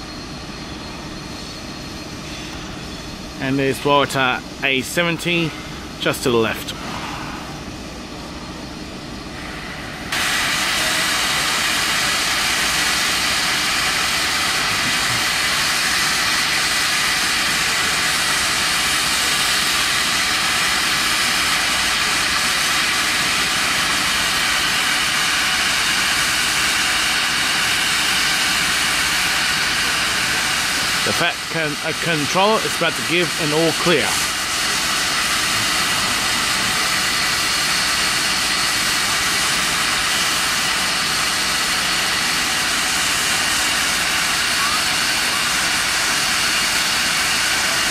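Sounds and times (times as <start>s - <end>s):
locomotive venting steam hiss: 0.0s - 47.9s.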